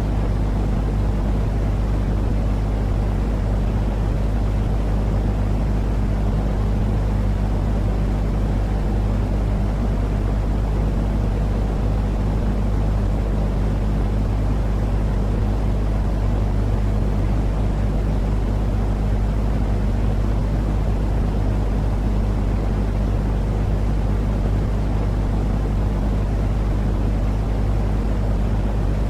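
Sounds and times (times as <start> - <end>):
constant low hum: 0.0 - 29.0
low rumbling white noise: 0.0 - 29.0.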